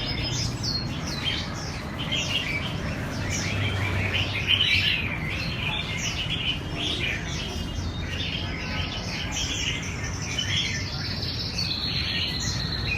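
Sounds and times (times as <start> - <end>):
bird chirping and warbling: 0.0 - 12.9.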